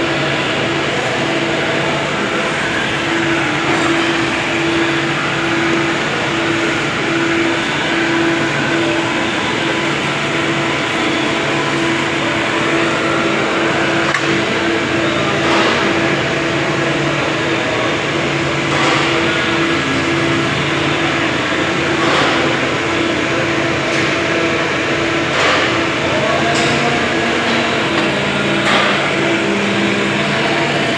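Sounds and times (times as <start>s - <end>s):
machine humming: 0.0s - 30.9s.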